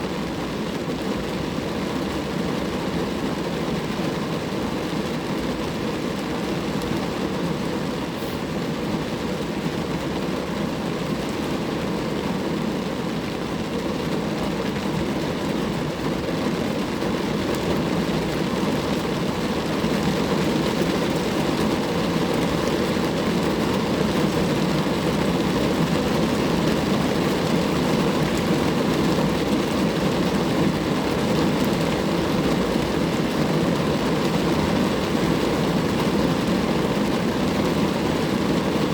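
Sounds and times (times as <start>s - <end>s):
rain falling on a car: 0.0s - 38.9s.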